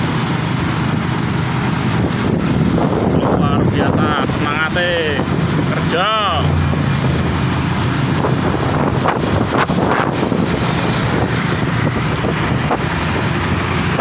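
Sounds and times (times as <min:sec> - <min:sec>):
motorcycle engine droning: 0:00.0 - 0:14.0
road noise: 0:00.0 - 0:14.0
wind buffeting microphone: 0:00.0 - 0:14.0.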